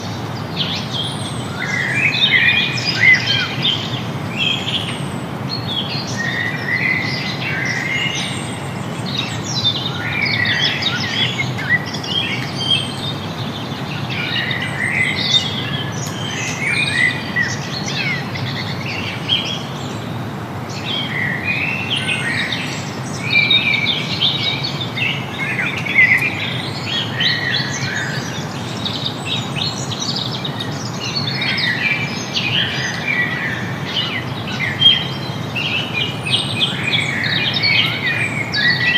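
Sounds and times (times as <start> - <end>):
birds chirping and singing: 0.6 - 38.9.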